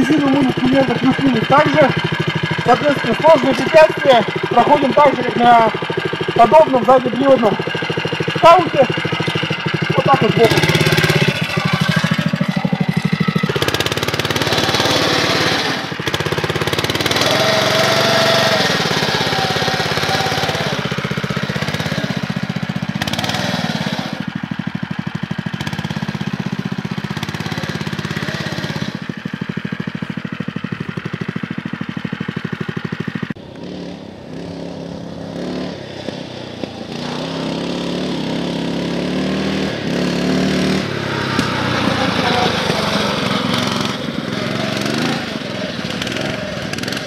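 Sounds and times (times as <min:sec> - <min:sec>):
bike churning through mud: 0:00.0 - 0:47.0
small engine revving: 0:00.0 - 0:47.0.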